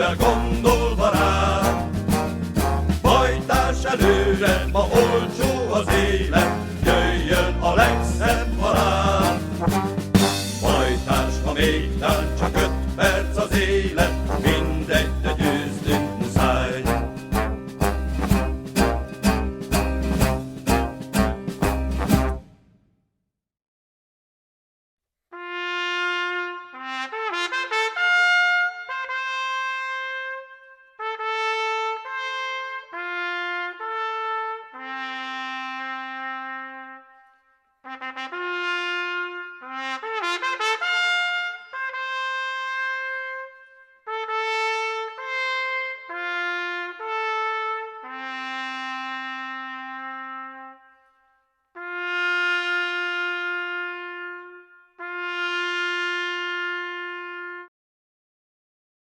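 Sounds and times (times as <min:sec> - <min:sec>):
solo trumpet melody: 0:00.0 - 0:11.2, 0:12.4 - 0:13.2, 0:15.9 - 0:22.6, 0:25.3 - 0:57.7.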